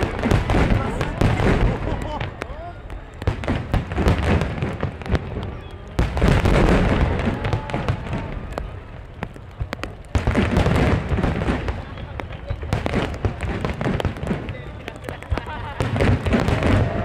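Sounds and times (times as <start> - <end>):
fireworks bangs and crackles: 0.0 - 17.0
fireworks booms: 0.0 - 17.0.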